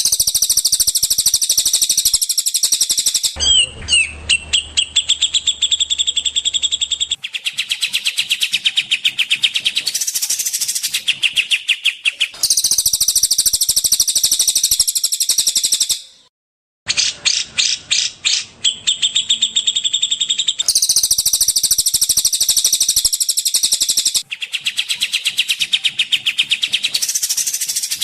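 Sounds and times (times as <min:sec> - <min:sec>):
songbirds chirping trills: 0:00.0 - 0:16.3, 0:16.9 - 0:28.0.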